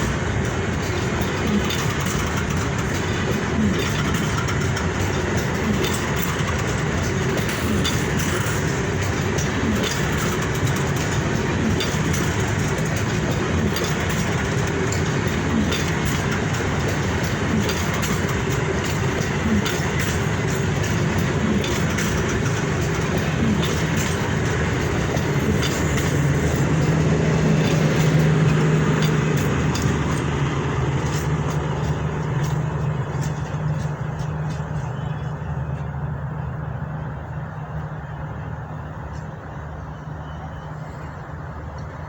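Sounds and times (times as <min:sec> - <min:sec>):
train cars rolling past: 0:00.0 - 0:42.0
wheels clicking over rail joints: 0:00.0 - 0:42.0.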